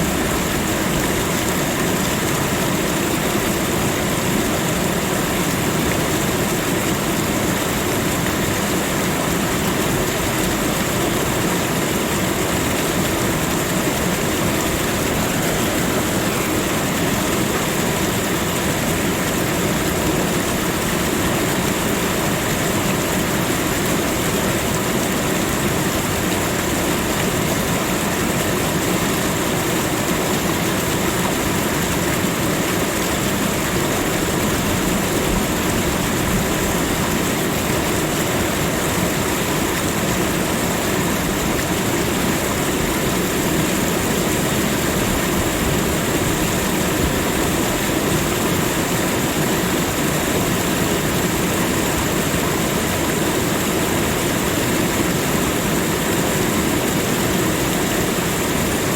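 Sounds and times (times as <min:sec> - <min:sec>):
water rushing: 0:00.0 - 0:58.9.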